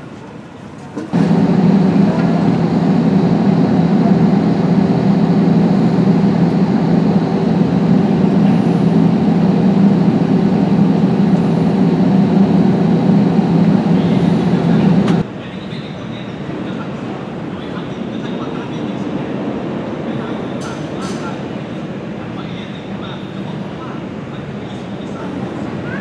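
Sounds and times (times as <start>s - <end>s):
jet engine drone: 1.1s - 15.4s, 16.1s - 26.0s.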